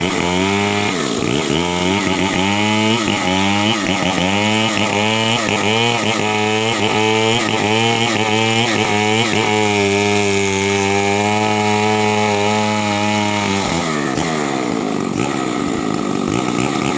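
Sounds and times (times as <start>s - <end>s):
chainsaw engine under load: 0.0s - 16.9s.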